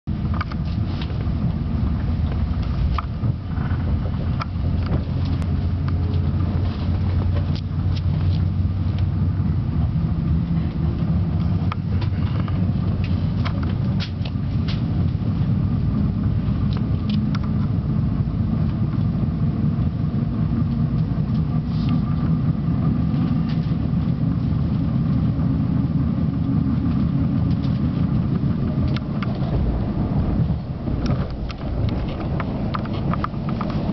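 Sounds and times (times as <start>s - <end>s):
train wheels rumbling on rail: 0.1s - 33.9s.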